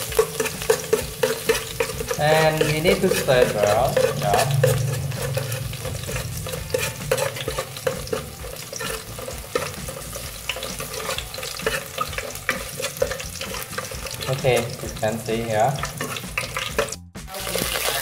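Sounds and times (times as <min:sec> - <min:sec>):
metal spoon scraping a pot: 0:00.0 - 0:17.9
garlic sizzling in hot oil: 0:00.0 - 0:18.0.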